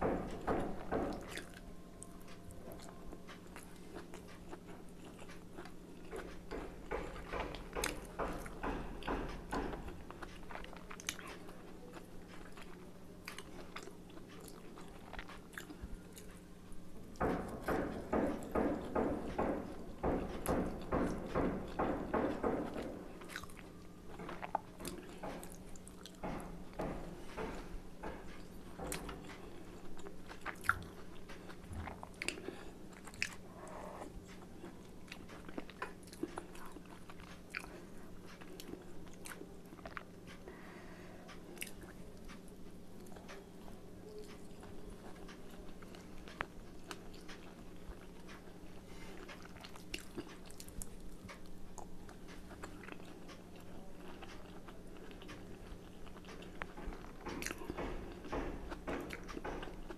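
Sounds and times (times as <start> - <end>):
chewing and biting dumplings: 0.0 - 40.5, 41.3 - 59.9
steady low hum: 0.0 - 59.9.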